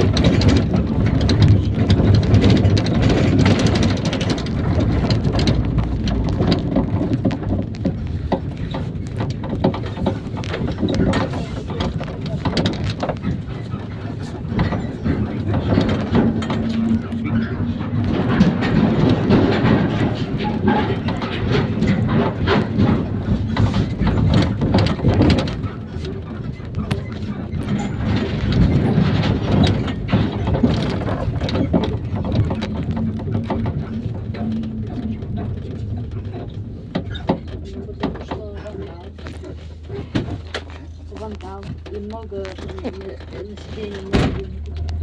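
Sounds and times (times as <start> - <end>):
bus engine and road drone: 0.0 - 45.0
rattling and knocking of bus body: 0.0 - 45.0.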